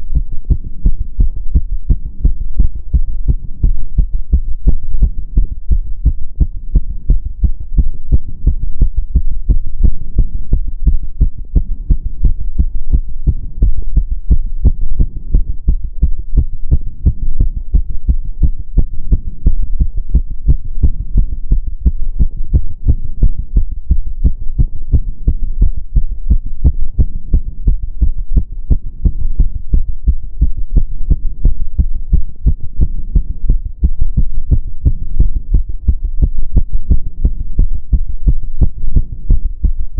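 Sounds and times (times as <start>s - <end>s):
heart beating fast: 0.0s - 39.9s
steady low rumble: 0.0s - 39.9s.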